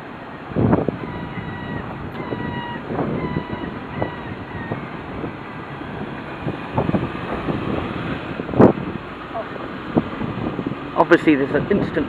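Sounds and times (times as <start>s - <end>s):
cars in a car park: 0.0s - 12.0s
wind rumbling on microphone: 0.0s - 12.0s.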